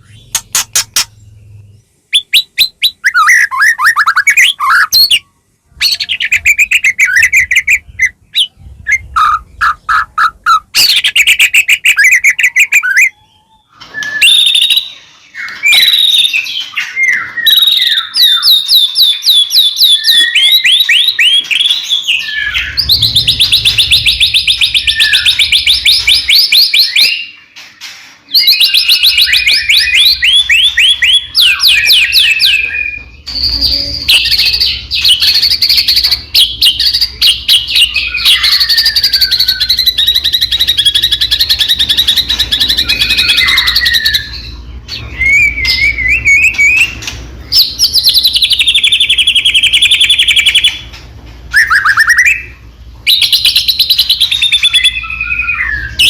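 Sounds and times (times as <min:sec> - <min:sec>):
bird singing trills and whistles: 0:00.0 - 0:56.0.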